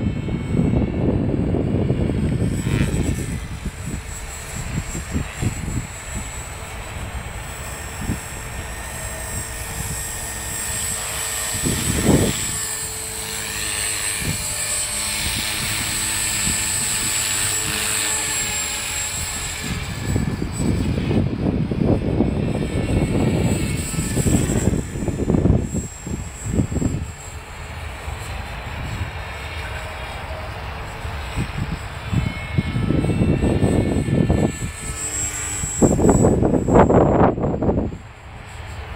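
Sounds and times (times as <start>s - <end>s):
rc helicopter rotor whine: 0.0s - 38.9s
wind buffeting microphone: 0.0s - 38.9s.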